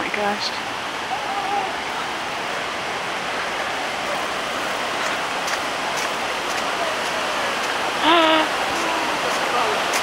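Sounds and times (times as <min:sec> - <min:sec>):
rushing floodwater: 0:00.0 - 0:10.0.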